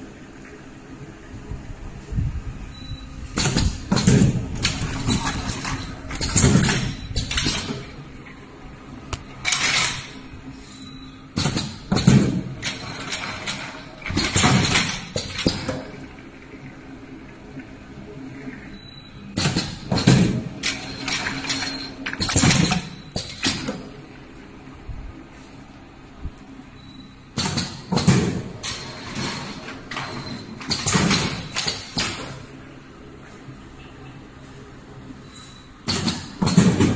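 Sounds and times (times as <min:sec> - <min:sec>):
machine low hum: 0:00.0 - 0:36.9.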